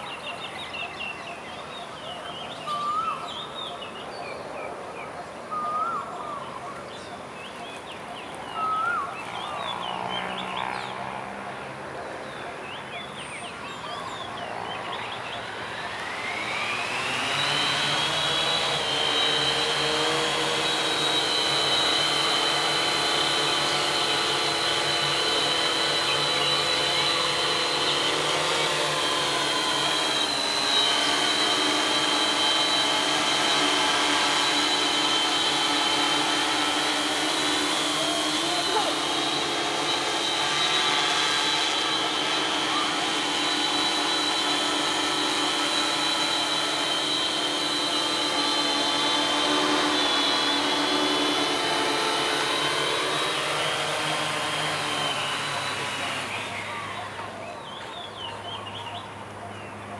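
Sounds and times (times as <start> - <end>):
birds chirping: 0.0 - 59.9
drone propellers buzzing whine: 0.0 - 59.9.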